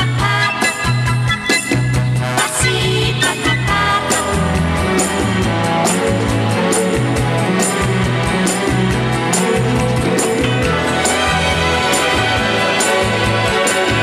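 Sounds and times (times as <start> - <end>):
orchestral pop music: 0.0 - 14.0.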